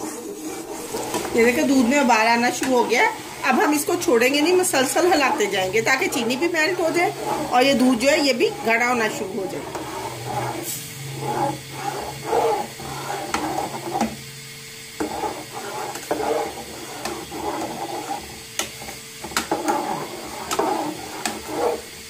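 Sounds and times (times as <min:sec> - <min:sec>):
spoon scraping metal saucepan: 0:00.0 - 0:14.2, 0:15.0 - 0:21.9.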